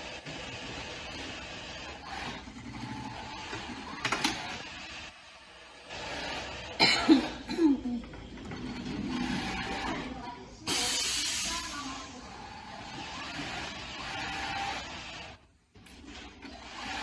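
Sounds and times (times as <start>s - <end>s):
industrial sewing machine running: 0.0s - 6.8s, 7.9s - 17.0s.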